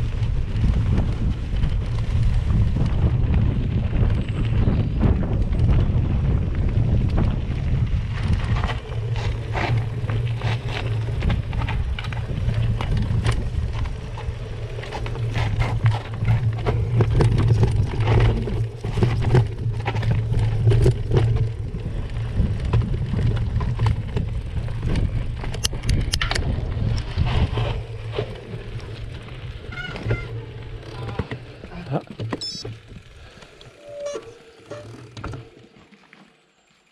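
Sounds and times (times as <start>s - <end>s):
bike clicks and rattles: 0.0s - 35.6s
mountain bike on dirt trail: 0.0s - 36.9s.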